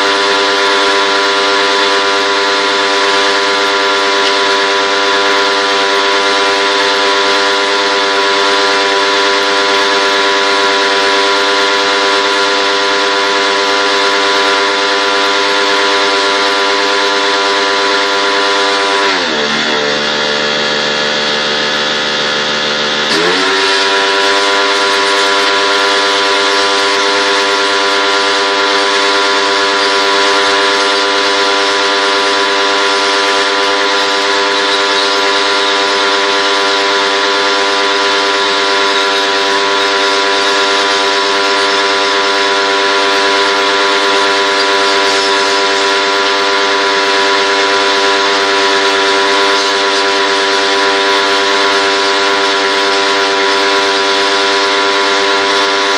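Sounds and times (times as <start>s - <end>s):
pressure washer motor humming: 0.0s - 55.9s.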